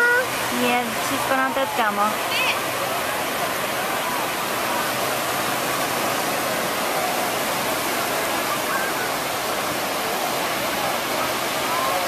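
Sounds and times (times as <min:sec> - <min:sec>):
surf washing onto a beach: 0:00.0 - 0:12.0.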